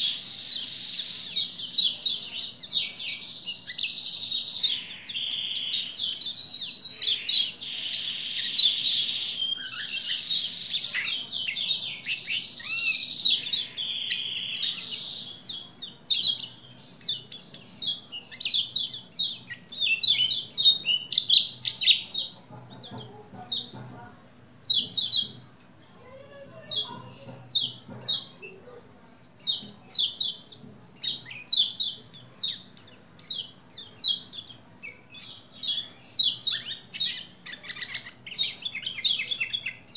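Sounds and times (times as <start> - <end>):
bird warbling and chattering: 0.0 - 39.9.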